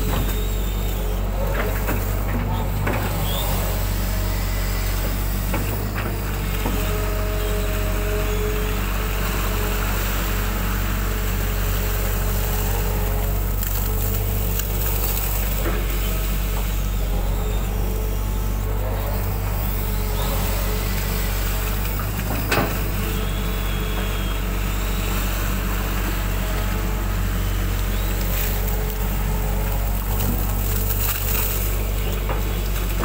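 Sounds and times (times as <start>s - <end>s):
excavator engine running under load: 0.0s - 33.0s
hydraulic whine: 0.0s - 33.0s.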